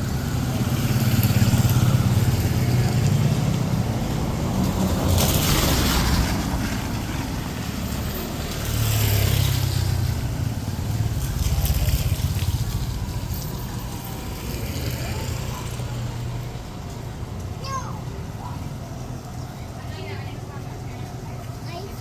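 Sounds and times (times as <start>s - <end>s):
vehicles passing on wet street: 0.0s - 22.0s.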